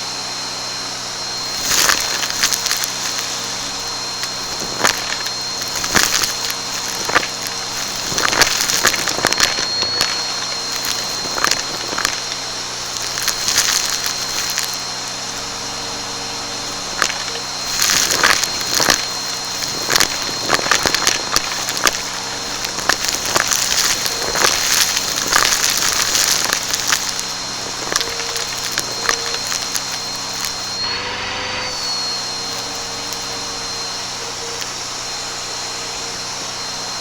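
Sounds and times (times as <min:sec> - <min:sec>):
vacuum cleaner running: 0:00.0 - 0:37.0
debris crackling in vacuum: 0:00.5 - 0:37.0.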